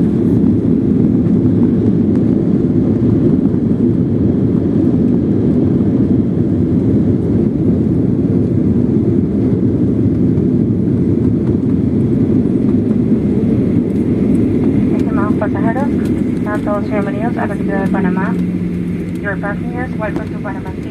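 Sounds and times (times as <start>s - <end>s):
airplane cabin engine rumble: 0.0s - 20.9s.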